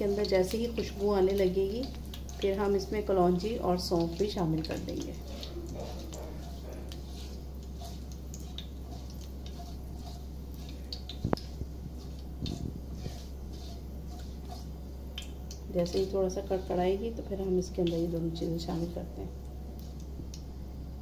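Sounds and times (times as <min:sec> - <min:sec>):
spatula stirring: 0:00.0 - 0:20.4
seeds sizzling and popping in oil: 0:00.0 - 0:20.8.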